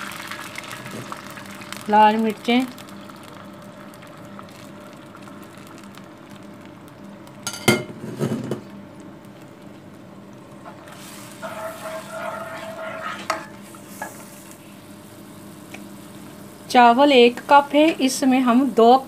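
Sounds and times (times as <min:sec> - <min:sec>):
onions sizzling in a pan: 0:00.0 - 0:07.6, 0:08.6 - 0:19.0.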